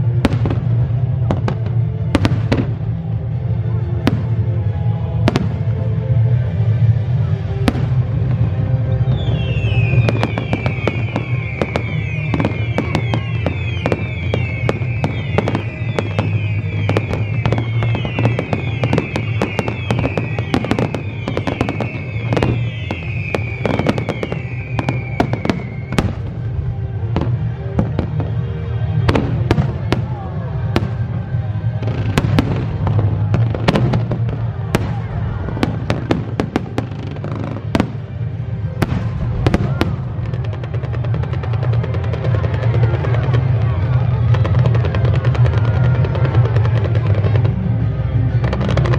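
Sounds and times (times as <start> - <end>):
fireworks bangs and crackling: 0.0 - 48.9
fireworks falling whistles: 7.5 - 48.9.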